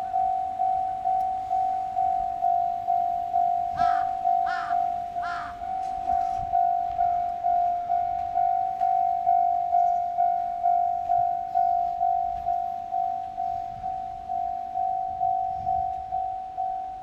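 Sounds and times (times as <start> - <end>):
level crossing warning bell ringing: 0.0 - 17.0.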